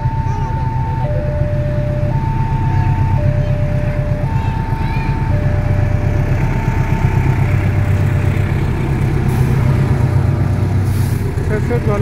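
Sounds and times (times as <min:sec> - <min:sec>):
diesel locomotive drone: 0:00.0 - 0:12.0.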